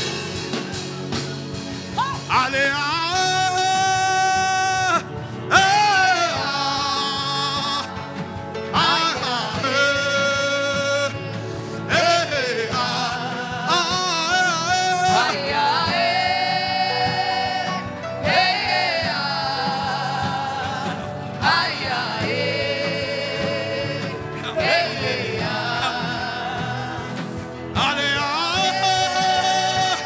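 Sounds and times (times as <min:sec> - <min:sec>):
keyboard accompaniment: 0:00.0 - 0:30.0
person singing with vibrato: 0:02.0 - 0:30.0.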